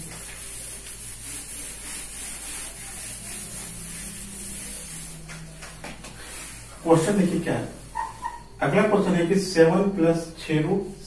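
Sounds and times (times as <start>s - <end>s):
whiteboard being erased: 0.0s - 9.2s.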